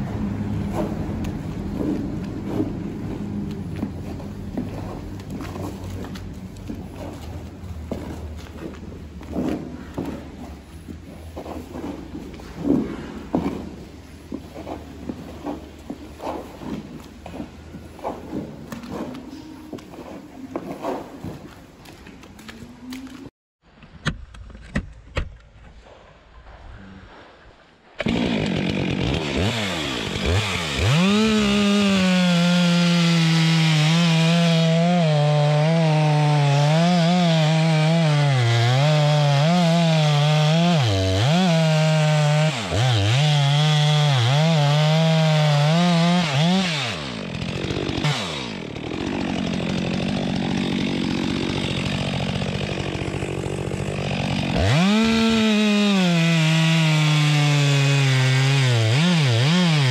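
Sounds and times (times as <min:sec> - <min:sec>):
chainsaw cutting wood: 0:00.0 - 0:23.2, 0:28.0 - 0:59.9.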